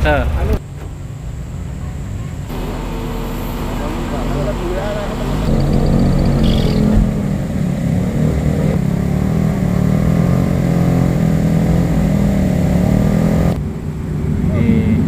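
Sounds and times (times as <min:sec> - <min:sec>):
engine running with low drone: 0:00.1 - 0:15.0.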